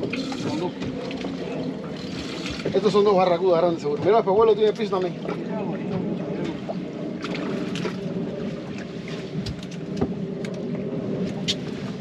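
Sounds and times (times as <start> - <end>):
outboard motors humming: 0.0 - 12.0.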